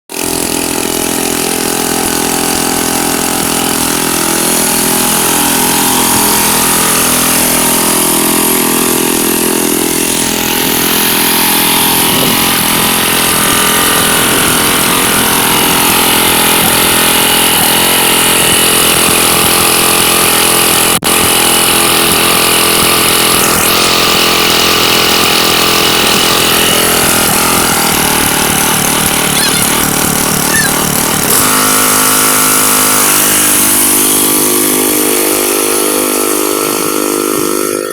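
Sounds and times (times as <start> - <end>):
lawnmower engine running loudly: 0.1 - 37.9.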